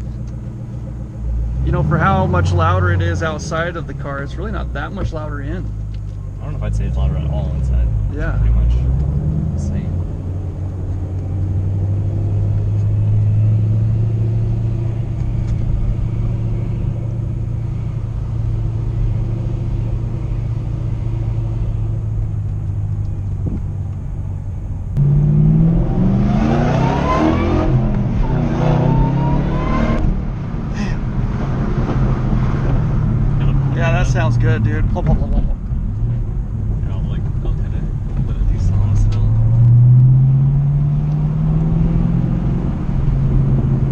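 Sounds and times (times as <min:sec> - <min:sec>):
car engine droning and revving: 0:00.0 - 0:43.9.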